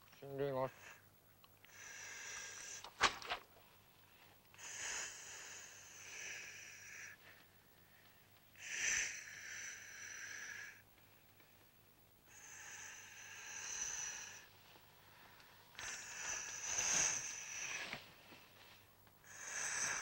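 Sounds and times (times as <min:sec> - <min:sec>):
slow heavy breathing: 0:00.7 - 0:03.0, 0:03.6 - 0:20.0.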